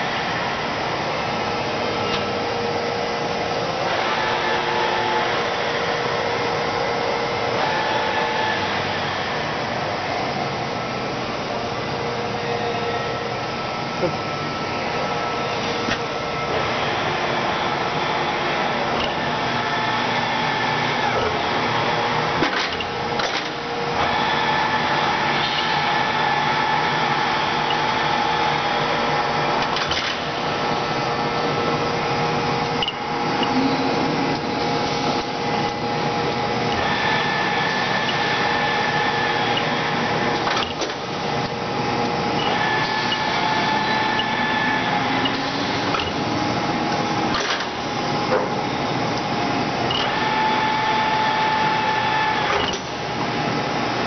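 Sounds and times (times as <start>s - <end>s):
lathe whining: 0.0s - 54.0s.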